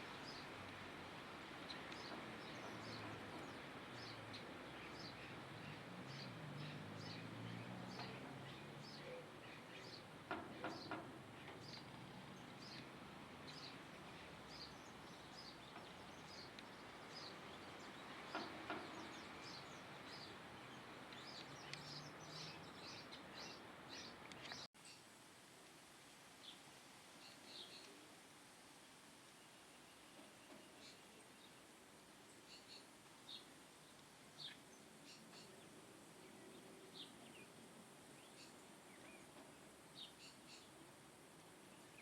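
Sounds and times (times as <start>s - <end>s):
background hiss: 0.0s - 42.0s.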